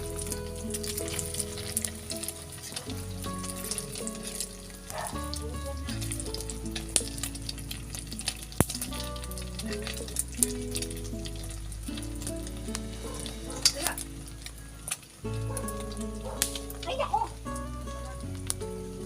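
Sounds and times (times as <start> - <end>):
background music: 0.0 - 19.0
eggs sizzling in oil: 0.0 - 19.0.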